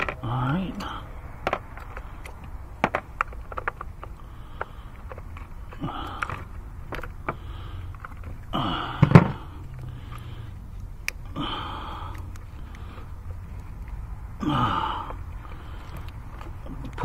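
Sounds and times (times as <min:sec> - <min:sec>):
person breathing: 0:00.0 - 0:02.8, 0:03.5 - 0:16.6
small clicks and knocks of parts: 0:00.0 - 0:11.4, 0:12.0 - 0:14.1, 0:15.0 - 0:17.0.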